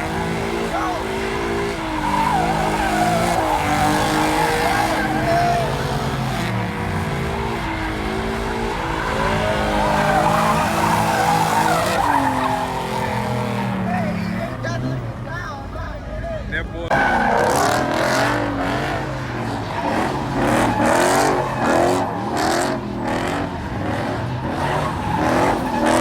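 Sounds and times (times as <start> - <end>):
car engine revving: 0.0 - 26.0
tires squealing: 0.0 - 26.0.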